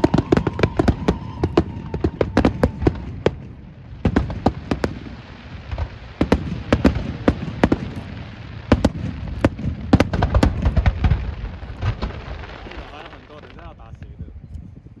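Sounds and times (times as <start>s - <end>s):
fireworks bangs and pops: 0.0s - 14.8s.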